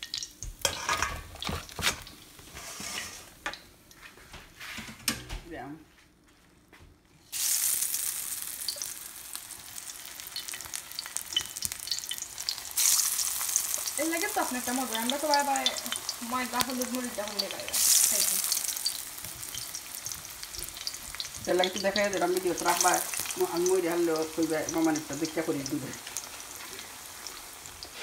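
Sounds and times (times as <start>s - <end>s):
battered slices sizzling in hot oil: 0.0s - 3.7s, 7.2s - 28.0s.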